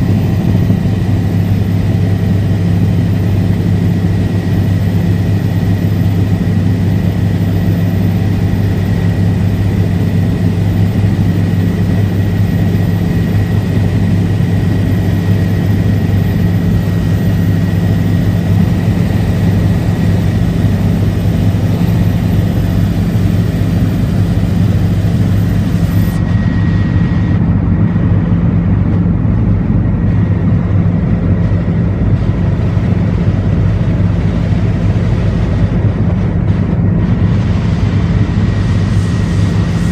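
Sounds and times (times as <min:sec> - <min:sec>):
helicopter engine and rotor drone: 0:00.0 - 0:39.9
high-pitched whine: 0:00.0 - 0:39.9.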